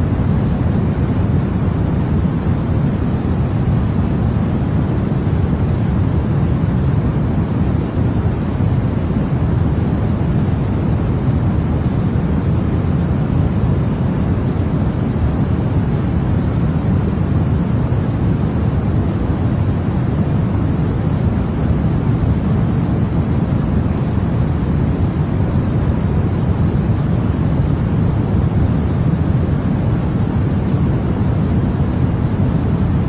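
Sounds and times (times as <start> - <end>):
deep white noise: 0.0 - 33.0.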